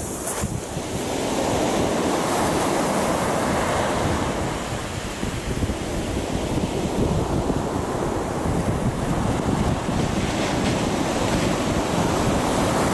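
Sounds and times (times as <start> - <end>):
sea waves breaking on beach: 0.0 - 12.9
wind rumble on microphone: 0.0 - 12.9.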